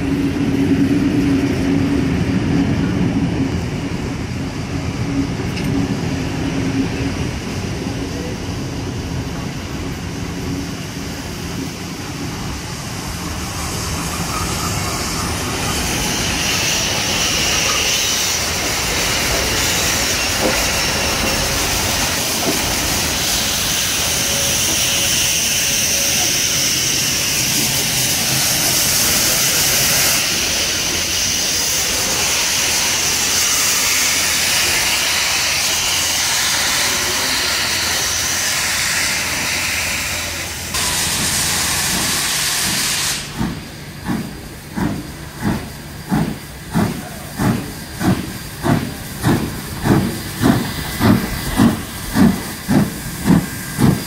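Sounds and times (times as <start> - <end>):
train carriages rolling past: 0.0 - 54.0
steam hissing: 4.2 - 54.0.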